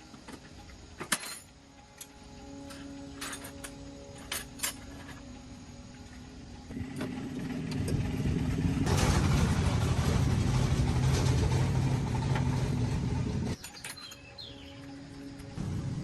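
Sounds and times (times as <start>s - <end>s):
truck engine humming: 1.6s - 16.0s.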